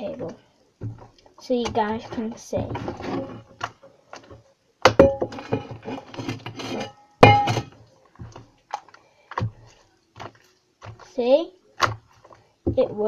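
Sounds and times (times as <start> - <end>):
rustling: 0.0 - 4.6, 5.3 - 13.0.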